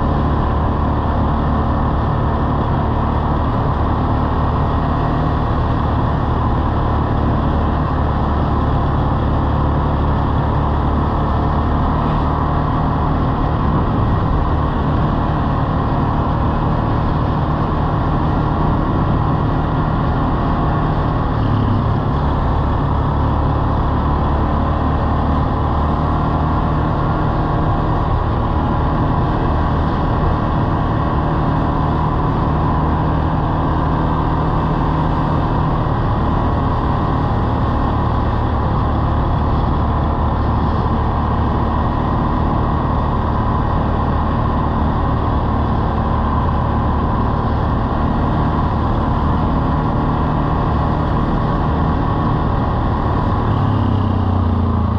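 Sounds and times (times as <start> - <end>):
atv engine running: 0.0 - 54.9
road noise: 0.0 - 54.9
rushing wind: 0.0 - 54.9.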